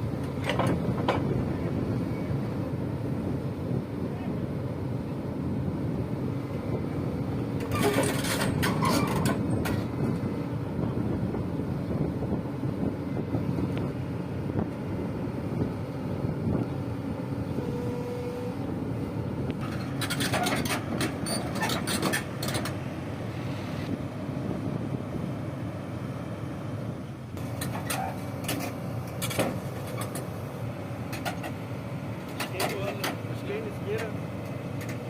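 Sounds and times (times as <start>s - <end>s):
heavy vehicle engine running: 0.0s - 35.0s.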